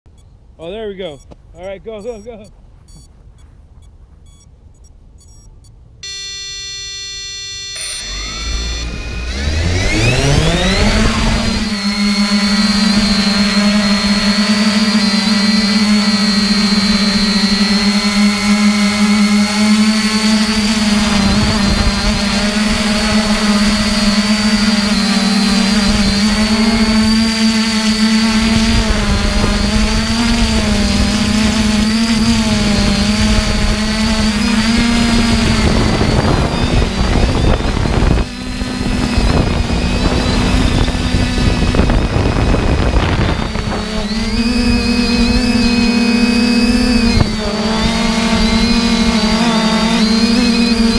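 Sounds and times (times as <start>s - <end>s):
drone propellers whining: 0.1s - 3.1s, 3.8s - 50.9s.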